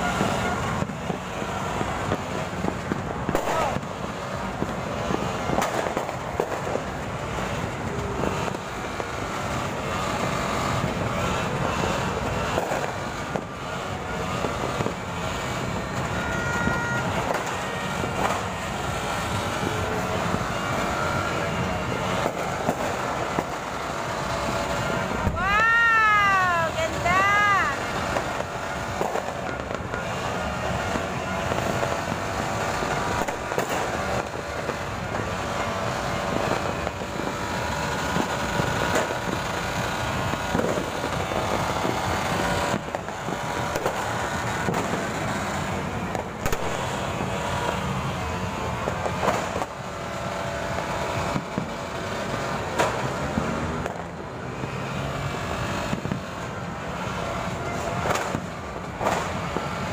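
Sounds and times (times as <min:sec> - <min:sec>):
fireworks bangs and pops: 0:00.0 - 0:59.9.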